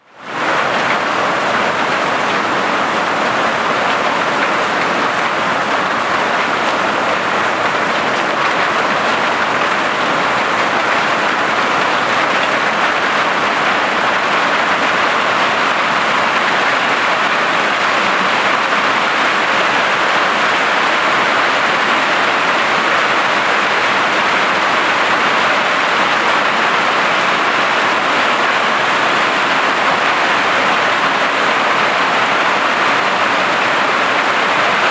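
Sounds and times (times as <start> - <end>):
hail pounding a tin roof: 0.2 - 34.9.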